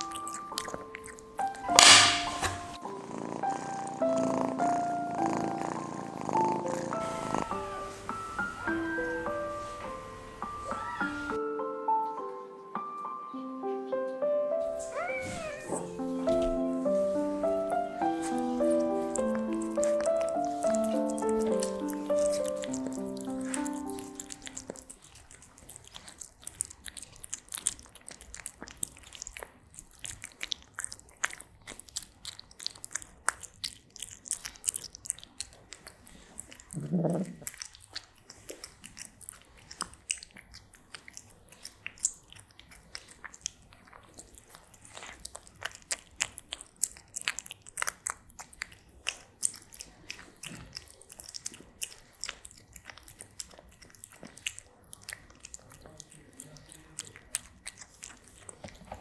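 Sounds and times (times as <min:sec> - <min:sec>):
cat chewing and crunching food: 0:00.0 - 0:11.4, 0:14.6 - 0:59.0.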